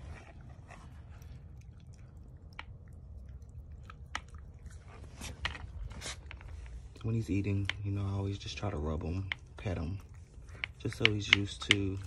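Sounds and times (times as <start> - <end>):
low steady rumble: 0.0 - 12.0
puppy chewing wet meat: 0.0 - 12.0.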